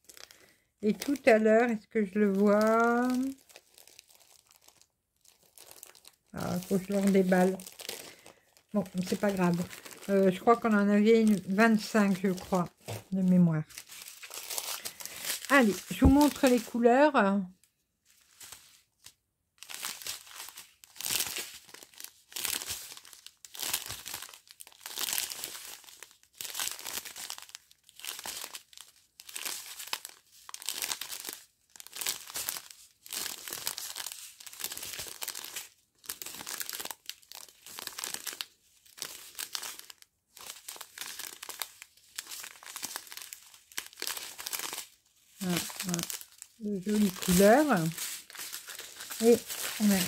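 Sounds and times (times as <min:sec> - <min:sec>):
plastic bags crinkling: 0:00.0 - 0:16.9, 0:18.1 - 0:50.0.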